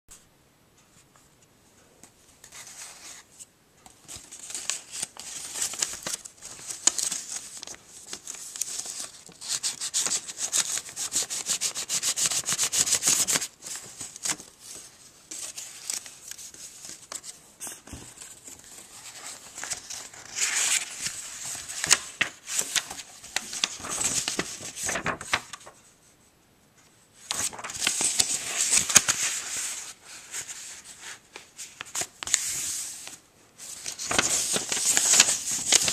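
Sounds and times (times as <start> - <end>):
paper rustling and crinkling: 2.4 - 25.9, 27.2 - 35.9.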